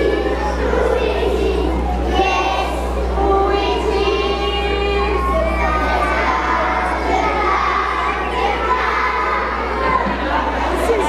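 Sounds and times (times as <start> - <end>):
children shouting and cheering: 0.0 - 11.0
low hum: 0.0 - 11.0.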